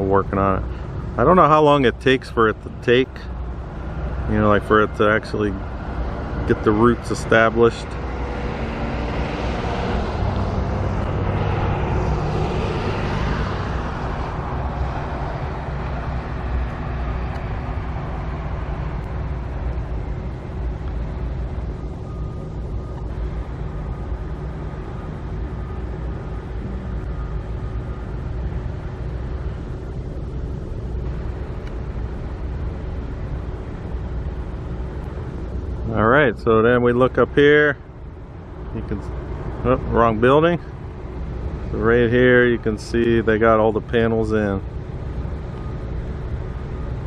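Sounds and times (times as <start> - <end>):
distant traffic rumble: 0.0 - 47.0
vehicle passing close by: 2.8 - 43.3.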